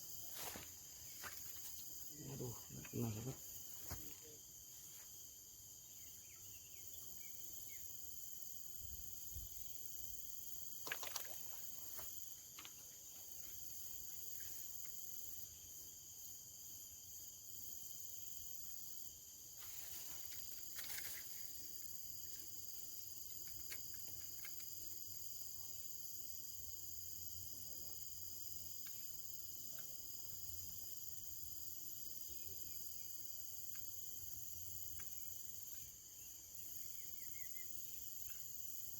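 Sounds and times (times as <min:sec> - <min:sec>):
insects chorus with shrill tones: 0:00.0 - 0:38.9.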